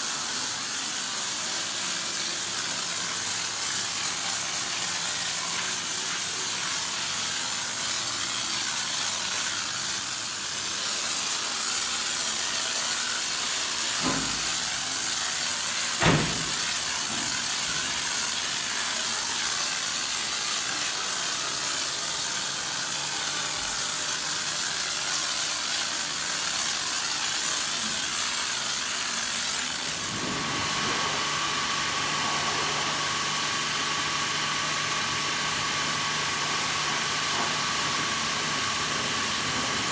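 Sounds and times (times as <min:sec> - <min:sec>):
pressure washer spraying: 0:00.0 - 0:39.9.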